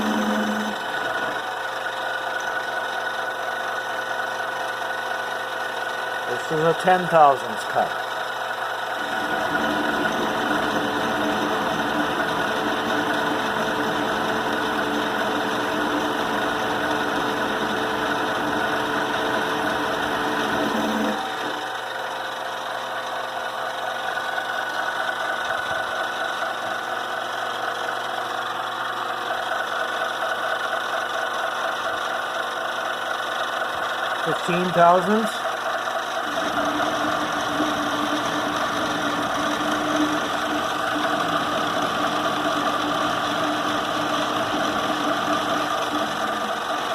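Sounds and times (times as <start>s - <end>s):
metal lathe whining: 0.0s - 46.9s.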